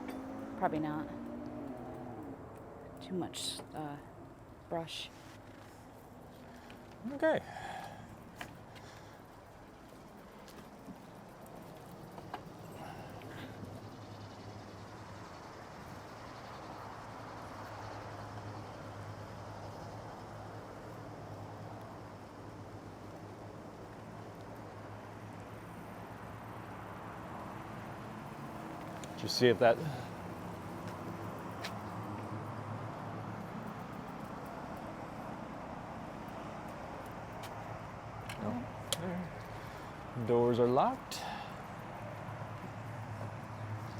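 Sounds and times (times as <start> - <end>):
constant low hum: 0.0 - 43.9.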